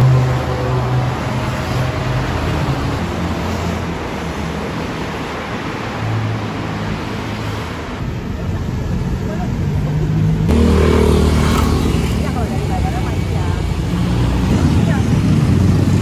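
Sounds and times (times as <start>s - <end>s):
road noise: 0.0s - 16.0s
vehicle engines droning: 0.0s - 16.0s.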